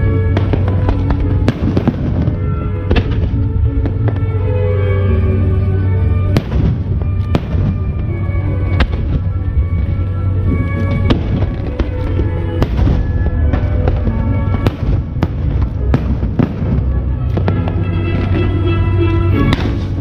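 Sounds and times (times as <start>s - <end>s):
fireworks bangs: 0.0s - 4.5s, 6.2s - 20.0s
music over loudspeakers: 0.0s - 20.0s.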